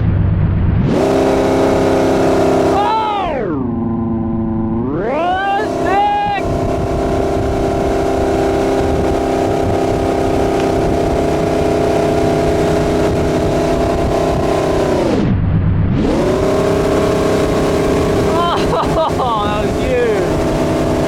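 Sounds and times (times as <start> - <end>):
boat inboard engine running: 0.5 - 21.0.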